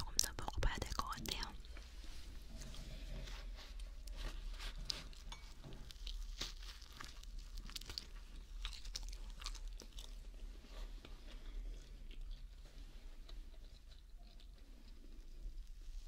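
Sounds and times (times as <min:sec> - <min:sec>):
close-up chewing: 0:00.0 - 0:16.0.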